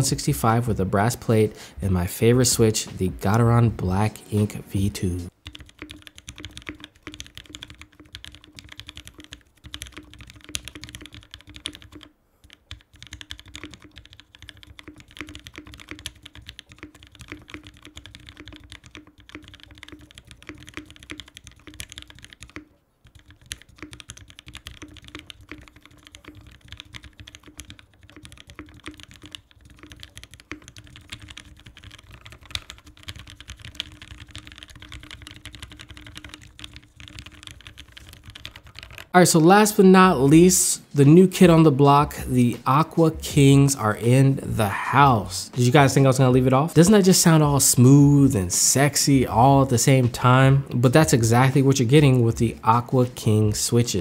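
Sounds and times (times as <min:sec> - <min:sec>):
mechanical keyboard typing: 0:02.2 - 0:39.2, 0:45.0 - 0:54.0.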